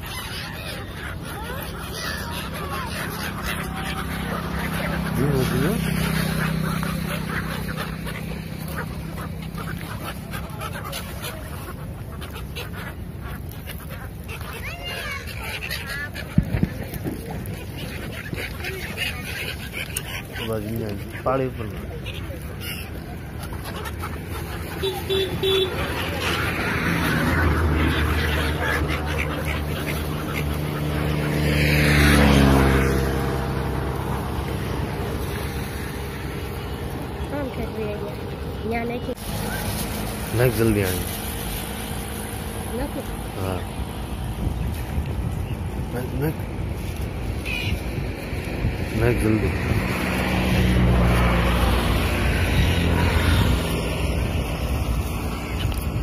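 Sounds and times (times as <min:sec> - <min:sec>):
background traffic: 0:00.0 - 0:56.0
gulls calling: 0:00.0 - 0:56.0
vehicle engine passing by: 0:00.2 - 0:56.0.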